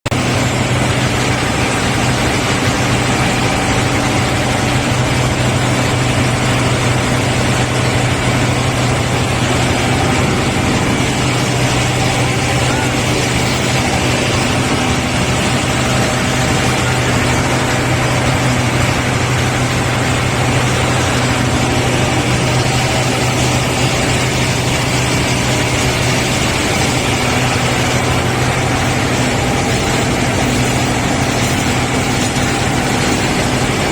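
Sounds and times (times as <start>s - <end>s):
heavy engine droning: 0.1s - 33.9s.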